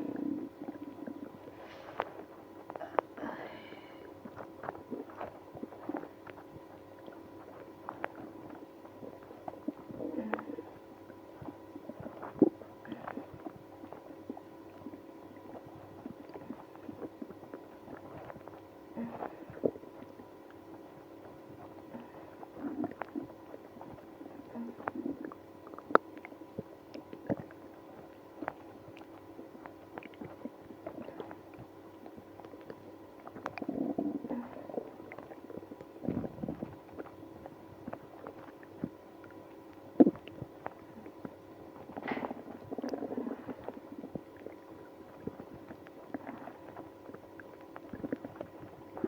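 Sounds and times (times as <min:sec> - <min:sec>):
stomach gurgling: 0:00.0 - 0:49.0.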